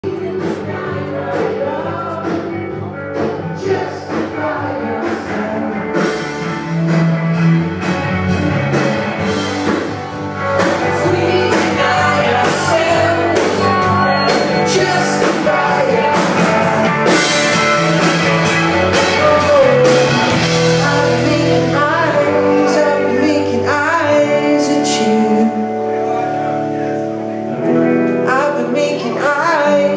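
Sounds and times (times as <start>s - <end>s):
person singing: 0.0s - 6.9s, 9.6s - 29.9s
rock band playing: 0.0s - 29.9s.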